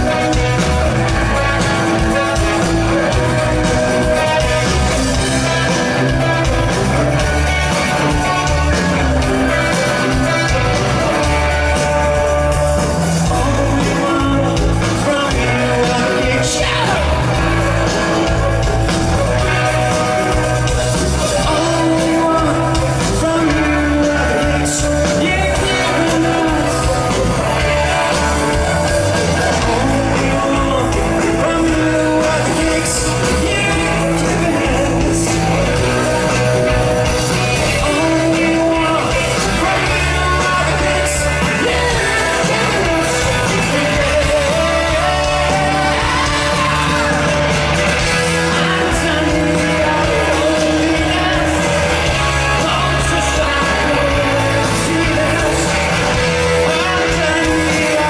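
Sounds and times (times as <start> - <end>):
live rock band playing: 0.0 - 58.0
male lead vocal: 0.0 - 58.0.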